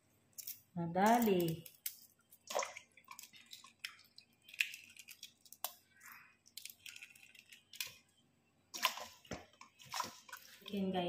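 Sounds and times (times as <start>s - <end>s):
eggshell cracking: 0.3s - 10.7s.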